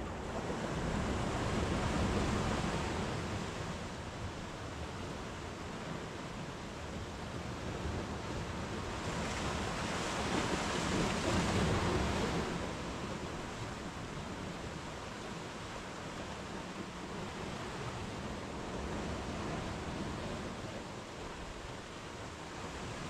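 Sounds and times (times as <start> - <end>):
surf breaking on a beach: 0.0 - 23.0.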